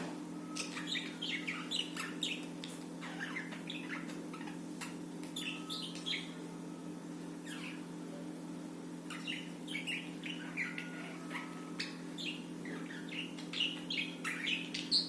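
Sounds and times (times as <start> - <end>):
steady low hum: 0.0 - 15.0
budgies chirping: 0.4 - 8.2, 9.0 - 15.0.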